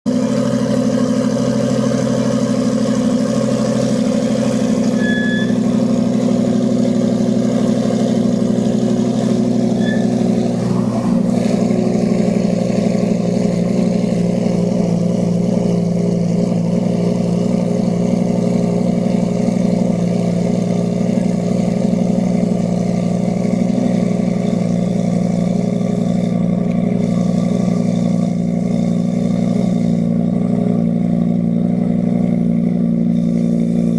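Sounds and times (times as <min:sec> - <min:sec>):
sports car engine idling: 0:00.0 - 0:33.9.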